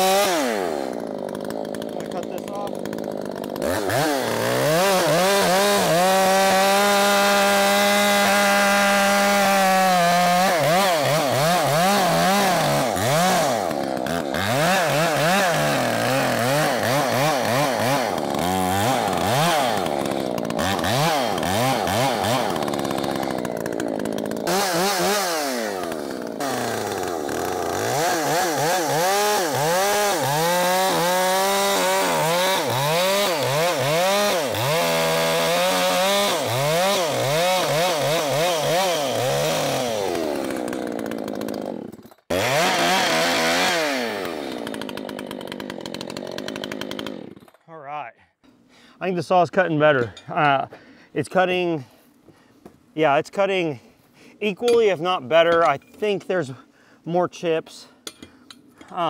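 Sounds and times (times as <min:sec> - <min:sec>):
chainsaw cutting wood: 0:00.0 - 0:47.6.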